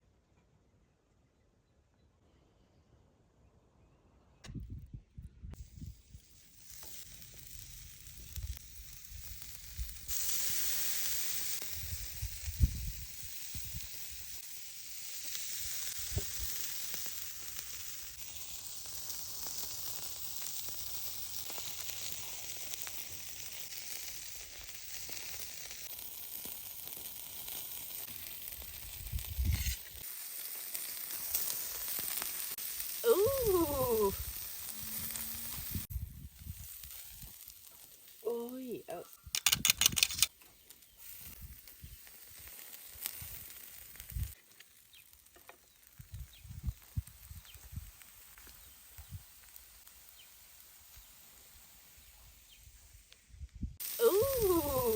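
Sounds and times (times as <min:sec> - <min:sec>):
meat sizzling on a grill: 0:05.5 - 0:54.9.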